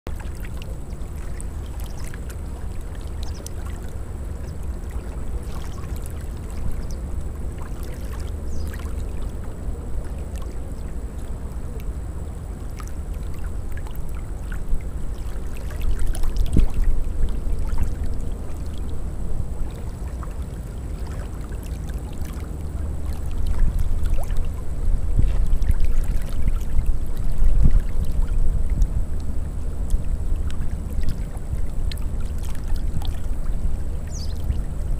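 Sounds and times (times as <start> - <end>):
small waves lapping: 0.1 - 34.9
wind rumble on microphone: 0.1 - 34.9.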